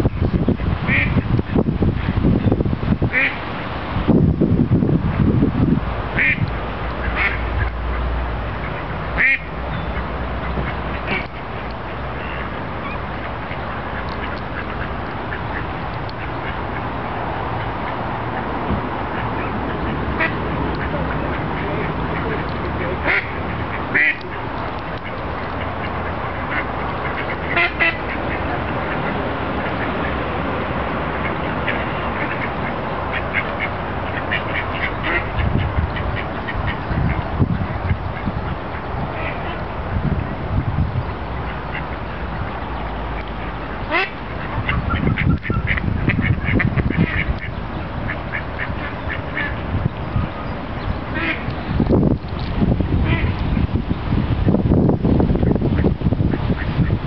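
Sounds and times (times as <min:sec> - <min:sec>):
steady background noise: 0:00.0 - 0:57.0
ducks quacking: 0:00.6 - 0:01.2, 0:03.1 - 0:03.4, 0:06.2 - 0:30.4, 0:31.1 - 0:39.7, 0:40.5 - 0:51.8, 0:52.6 - 0:53.7, 0:55.4 - 0:57.0.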